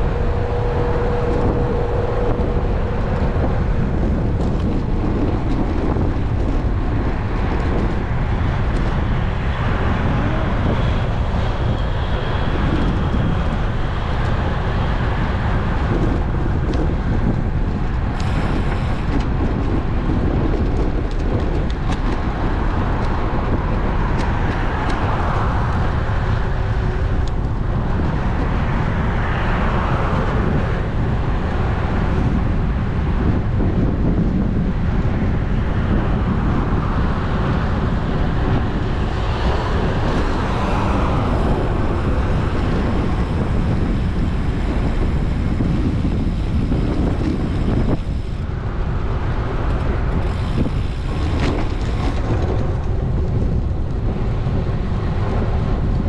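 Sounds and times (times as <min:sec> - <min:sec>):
cars passing: 0:00.0 - 0:17.2, 0:21.8 - 0:56.0
bicycle road rumble: 0:00.0 - 0:56.0
wind noise: 0:00.0 - 0:56.0.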